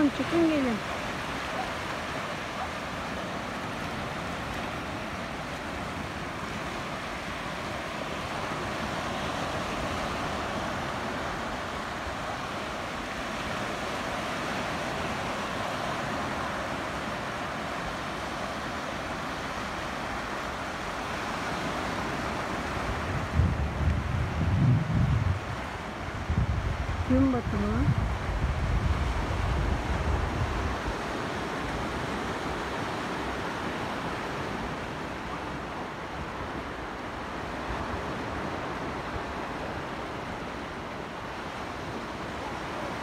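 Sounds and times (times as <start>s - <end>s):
sea waves washing on shore: 0.0s - 43.0s.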